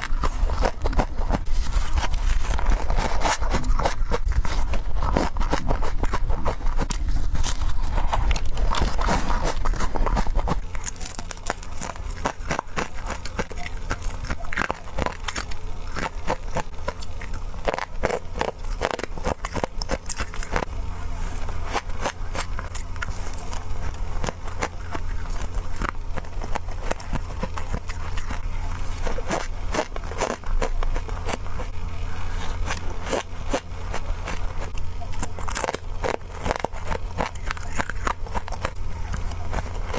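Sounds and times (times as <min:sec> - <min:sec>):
frost crunching: 0:00.0 - 0:39.9
steady low hum: 0:00.0 - 0:39.9.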